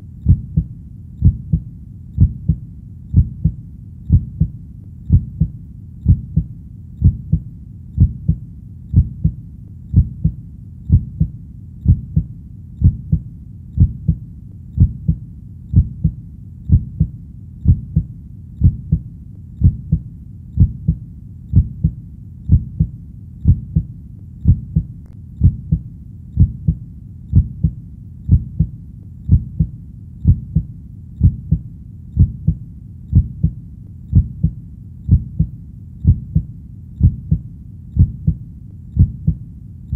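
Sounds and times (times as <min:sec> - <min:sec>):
heartbeat double thumps: 0:00.0 - 0:39.4.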